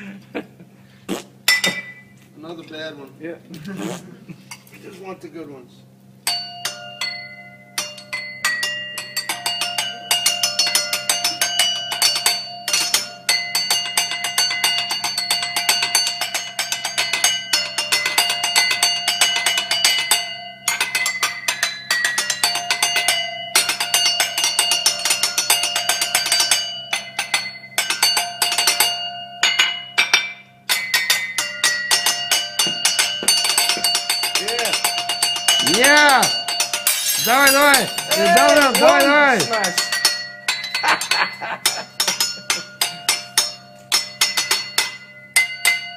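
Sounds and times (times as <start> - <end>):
drumsticks on ringing glasses: 6.2 - 45.9.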